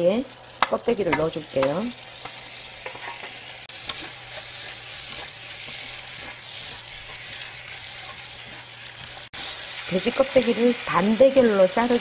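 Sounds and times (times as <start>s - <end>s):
food sizzling in a wok: 0.0s - 12.0s
wooden utensils stirring: 0.6s - 10.8s.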